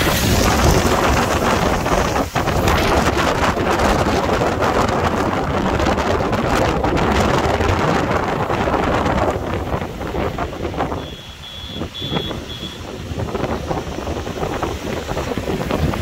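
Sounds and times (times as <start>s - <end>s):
rain pattering: 0.0s - 11.0s, 12.4s - 16.0s
car driving through heavy rain: 0.0s - 16.0s.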